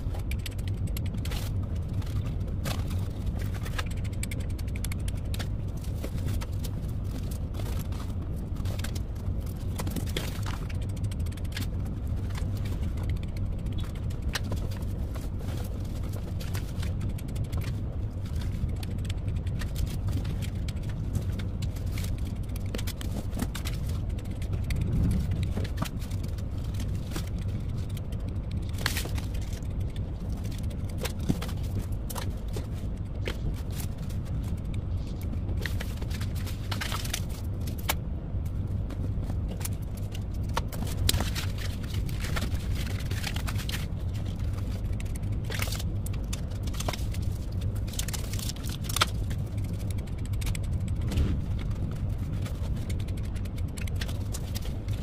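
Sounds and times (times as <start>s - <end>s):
foam pieces clicking and scraping: 0.0s - 55.0s
low background hum: 0.0s - 55.0s.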